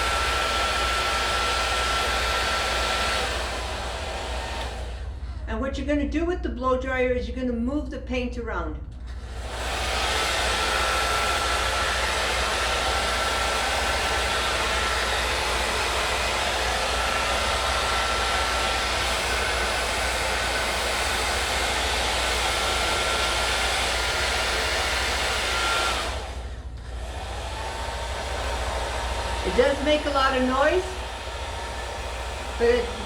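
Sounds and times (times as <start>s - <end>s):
blow dryer running: 0.0s - 5.7s, 8.9s - 33.0s.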